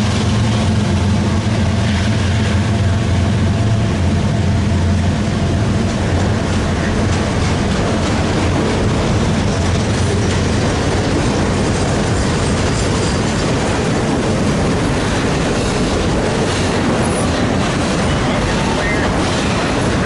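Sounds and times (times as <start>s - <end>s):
freight train wheels clacking: 0.0s - 20.0s.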